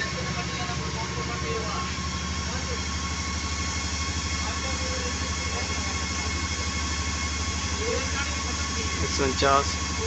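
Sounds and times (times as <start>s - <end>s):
machine hum with low throb: 0.0s - 10.0s.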